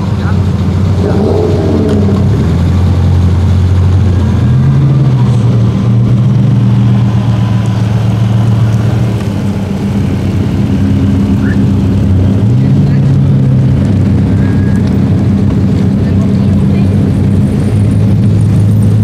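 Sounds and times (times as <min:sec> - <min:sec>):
car engine low exhaust note: 0:00.0 - 0:19.0.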